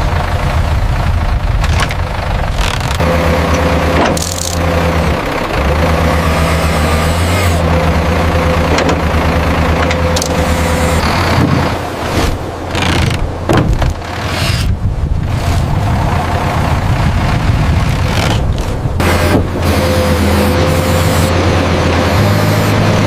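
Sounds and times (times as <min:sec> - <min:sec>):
heavy machinery diesel engine running: 0:00.0 - 0:23.0.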